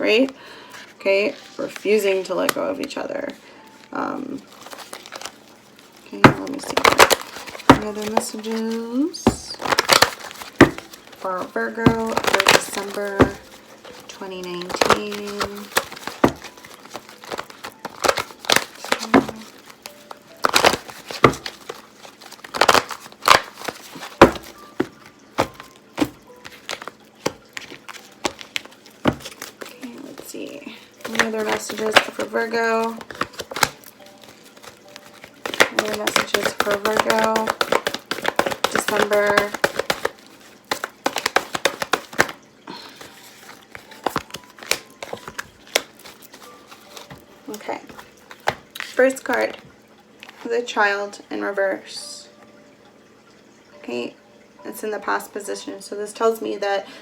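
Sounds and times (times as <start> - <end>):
cards being shuffled: 1.1 - 50.5.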